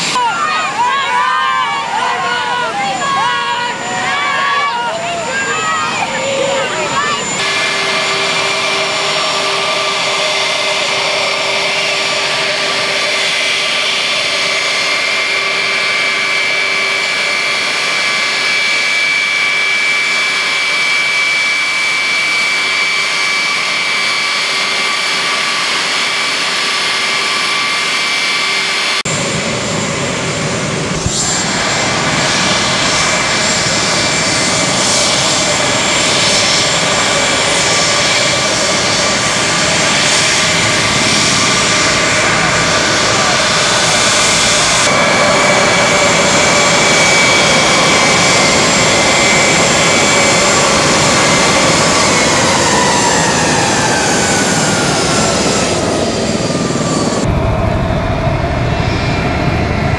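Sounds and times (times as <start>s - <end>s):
jet engines whining at taxi power: 0.0s - 59.9s.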